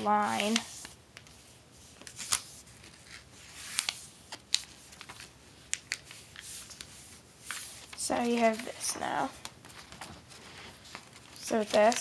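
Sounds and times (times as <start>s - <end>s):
paper rustling and creasing: 0.0s - 12.0s.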